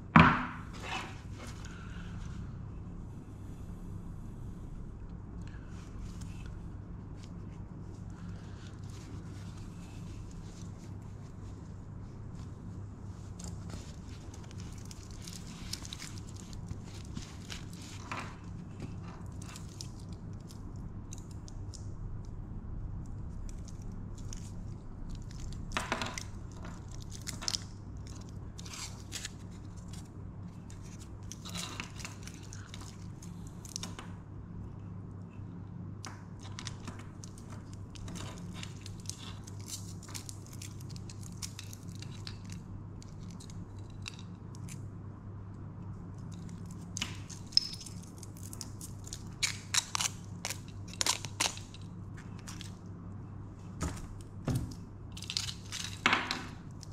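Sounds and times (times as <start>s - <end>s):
steady low hum: 0.0s - 56.9s
plastic film peeling and crinkling: 5.7s - 21.9s, 23.0s - 34.0s, 36.1s - 44.8s, 46.1s - 52.9s, 53.6s - 56.9s.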